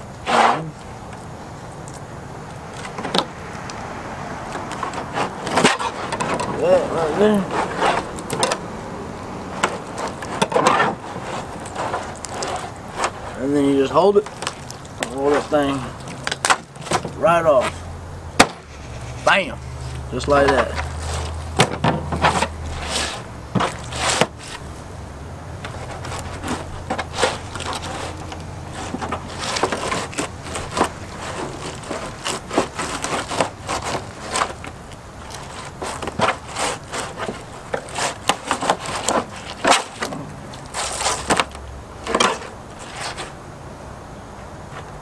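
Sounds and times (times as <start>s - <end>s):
knife scraping through fish: 4.8s - 8.6s, 9.5s - 17.8s, 18.4s - 24.7s, 25.7s - 43.4s.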